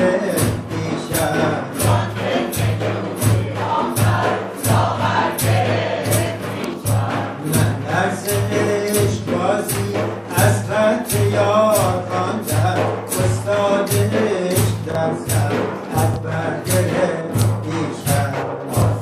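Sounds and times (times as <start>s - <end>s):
steady drum beat: 0.0s - 19.0s
voices singing devotional verse: 0.0s - 19.0s.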